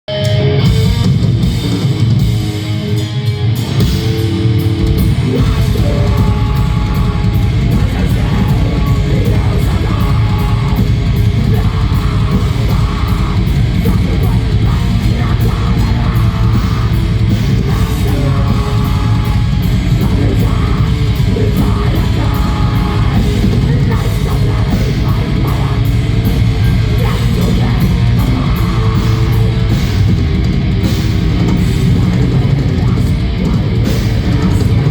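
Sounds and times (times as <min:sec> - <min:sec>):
distorted electric guitars: 0:00.0 - 0:34.9
drum kit: 0:00.0 - 0:34.9.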